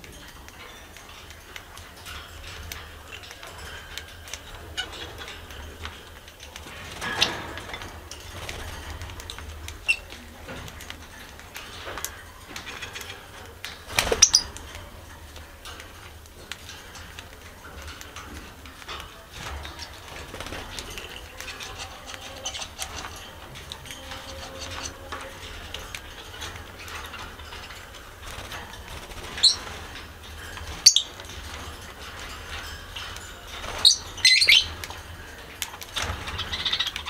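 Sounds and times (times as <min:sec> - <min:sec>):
parakeets chirping and clicking: 0:00.0 - 0:37.0.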